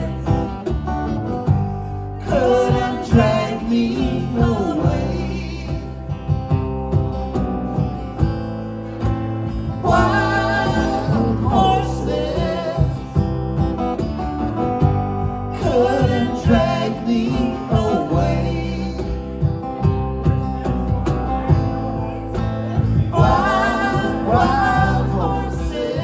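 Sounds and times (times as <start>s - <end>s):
cajon beat: 0.0s - 26.0s
strummed acoustic guitar: 0.0s - 26.0s.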